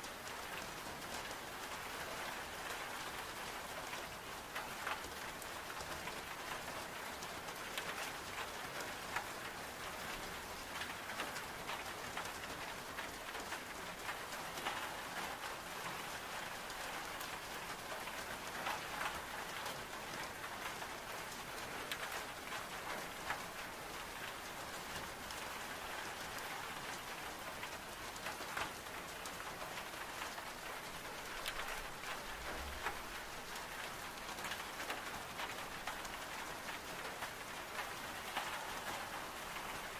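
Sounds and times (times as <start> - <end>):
rain pattering on window glass: 0.0 - 39.9.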